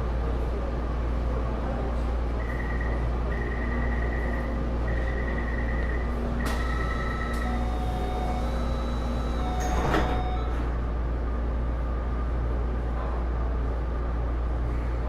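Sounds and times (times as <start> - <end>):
train car low rumble: 0.0 - 15.0.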